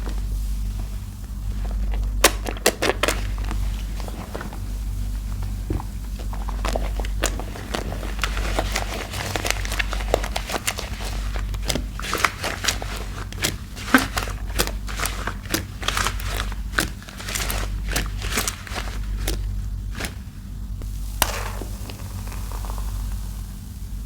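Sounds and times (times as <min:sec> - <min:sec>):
soap paste squishing: 0:00.0 - 0:23.4.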